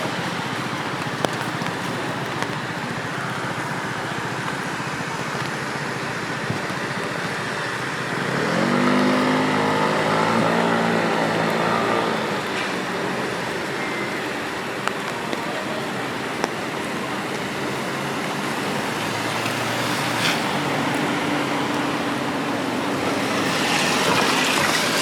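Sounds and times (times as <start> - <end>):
car passing: 0.0 - 25.0
steady rain on wet pavement: 0.0 - 25.0.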